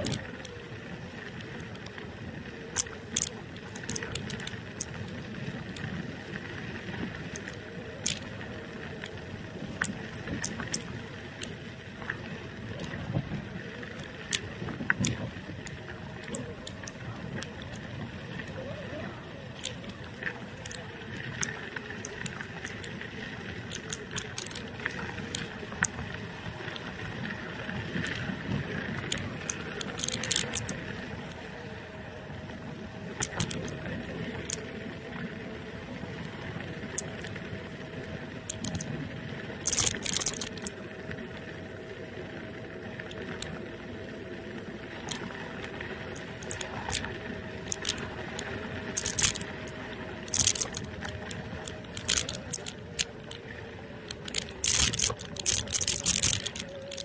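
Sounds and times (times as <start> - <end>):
scooter clicks and rattles: 0.0 - 41.8, 42.5 - 57.0
electric scooter motor whine: 0.0 - 57.0.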